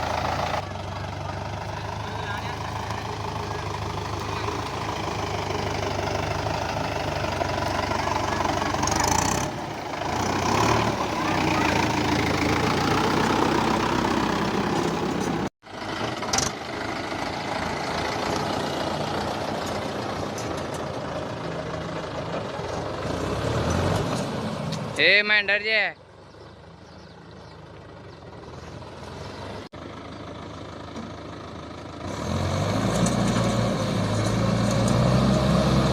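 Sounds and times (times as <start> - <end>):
tractor diesel engine running: 0.0 - 23.7, 26.0 - 32.2.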